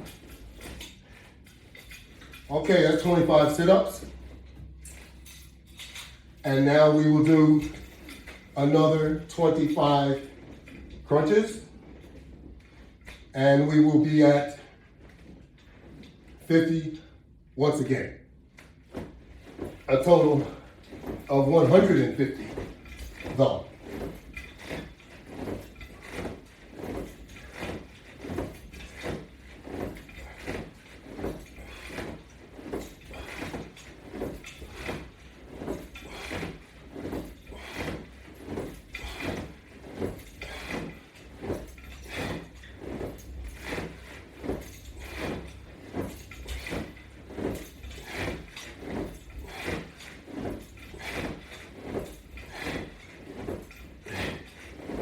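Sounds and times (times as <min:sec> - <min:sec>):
resistance straps swishing: 0:00.0 - 0:55.0.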